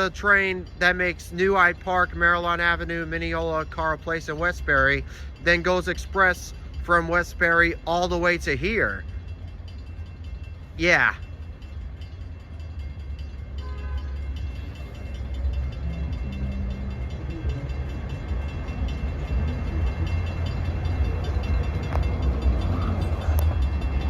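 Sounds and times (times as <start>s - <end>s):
electric train approaching: 0.0s - 24.0s.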